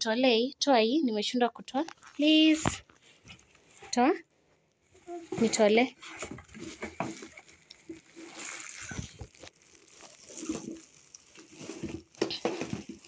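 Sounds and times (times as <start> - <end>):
plastic wrapping crinkling: 1.9 - 13.0.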